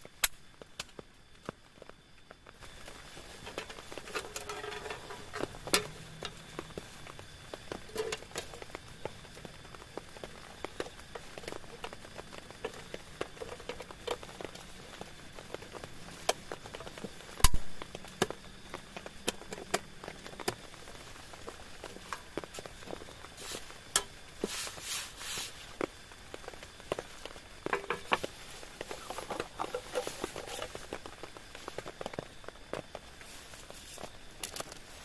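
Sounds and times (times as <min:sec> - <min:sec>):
rain pattering on a tent: 0:00.0 - 0:35.0.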